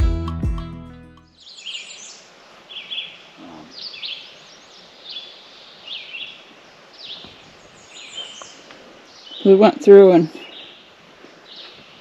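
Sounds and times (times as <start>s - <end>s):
birds chirping: 1.3s - 12.0s
faint steady hiss: 1.4s - 12.0s.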